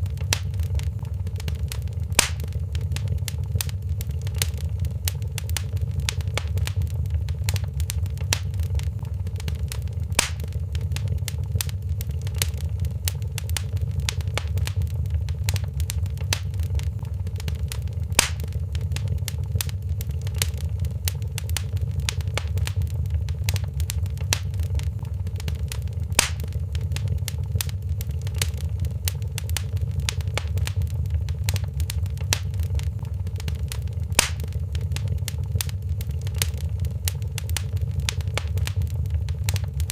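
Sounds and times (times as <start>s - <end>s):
fire popping loudly: 0.0s - 39.9s
wood fire crackling: 0.0s - 39.9s.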